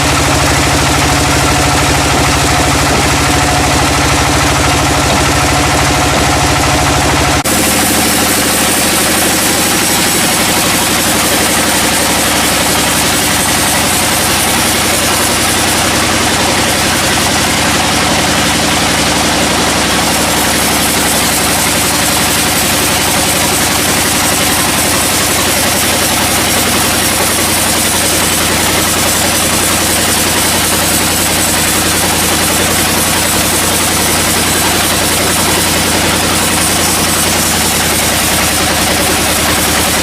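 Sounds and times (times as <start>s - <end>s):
sawmill machinery engine drone: 0.0s - 40.0s.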